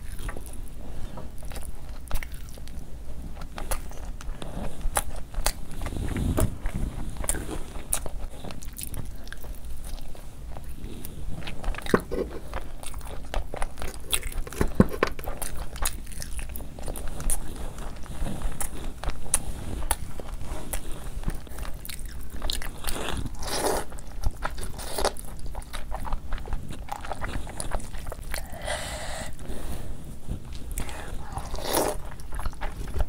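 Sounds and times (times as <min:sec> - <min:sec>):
person chewing and biting food: 0:01.4 - 0:10.8, 0:11.4 - 0:29.6, 0:30.4 - 0:33.0.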